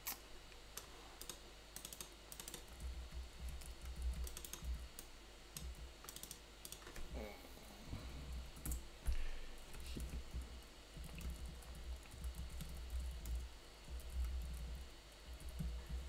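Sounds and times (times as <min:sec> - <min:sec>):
faint keyboard typing: 0:00.0 - 0:07.1, 0:08.3 - 0:16.0.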